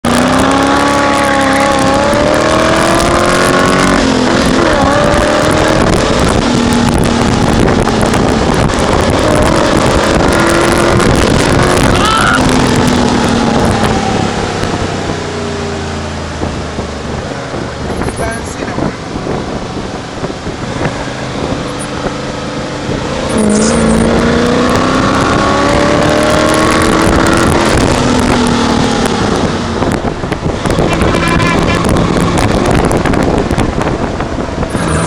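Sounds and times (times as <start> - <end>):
sports car engine revving: 0.0 - 35.0
wind rushing: 0.0 - 35.0.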